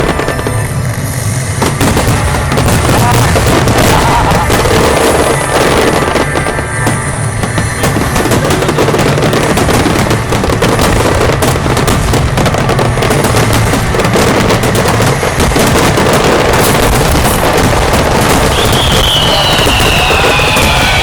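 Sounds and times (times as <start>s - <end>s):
firework crackling: 0.0s - 21.0s
firework shells bursting: 0.0s - 21.0s.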